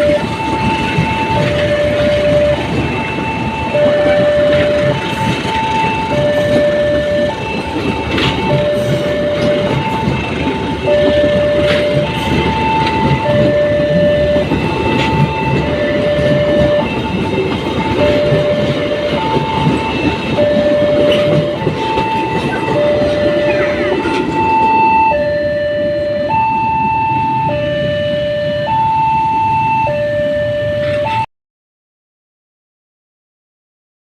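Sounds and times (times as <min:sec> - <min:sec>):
passing train rumble and clatter: 0:00.0 - 0:31.2
level crossing alarm two tones: 0:00.0 - 0:31.3.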